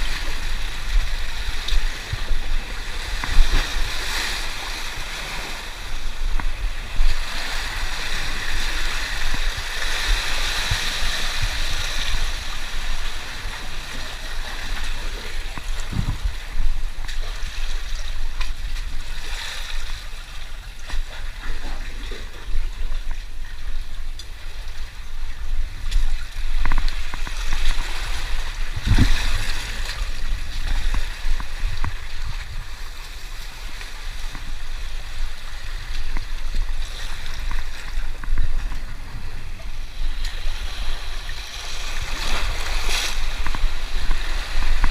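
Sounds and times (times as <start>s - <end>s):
sea water gurgling over rocks: 0.0s - 44.9s.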